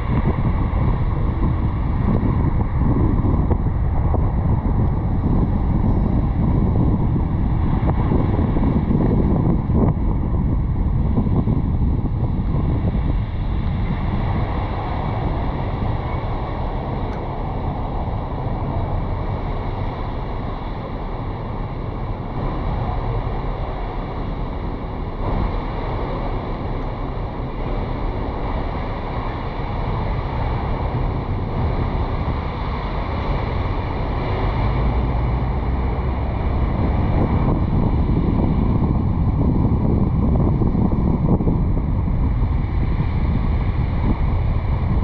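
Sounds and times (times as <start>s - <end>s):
car road noise: 0.0s - 45.0s
wind rushing over microphone: 0.0s - 45.0s.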